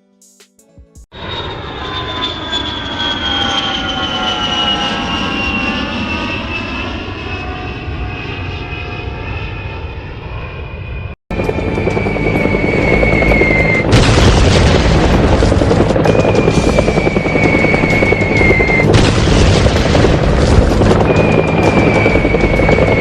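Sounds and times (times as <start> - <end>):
aircraft engine whining: 1.2 - 23.0.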